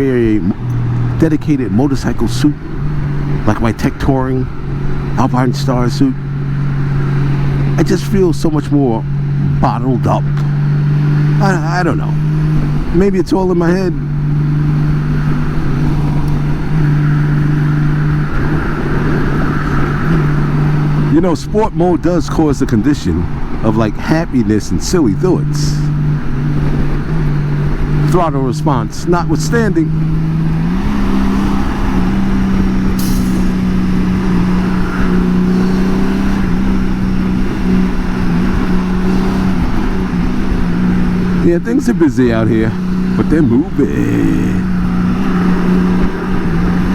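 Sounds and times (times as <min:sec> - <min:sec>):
motorcycle engine cruising: 0:00.0 - 0:46.9
wind and road rush: 0:00.0 - 0:46.9.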